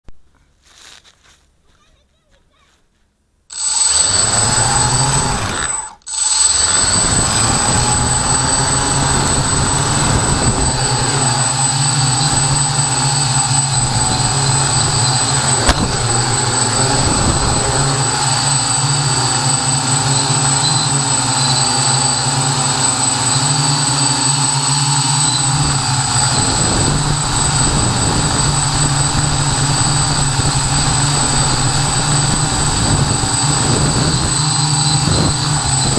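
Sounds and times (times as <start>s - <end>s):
drone motors humming: 3.5s - 35.9s
high-pitched propeller whine: 3.5s - 35.9s.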